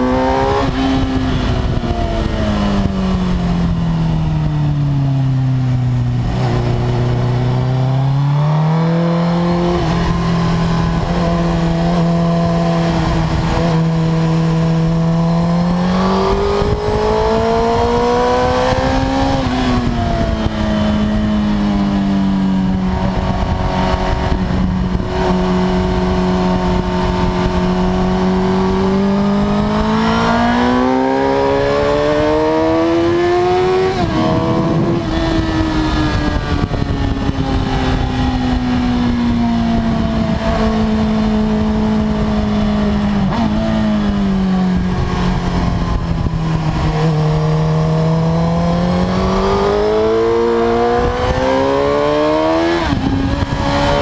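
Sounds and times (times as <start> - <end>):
motorcycle engine at speed: 0.0 - 54.0
wind rushing over microphone: 0.0 - 54.0.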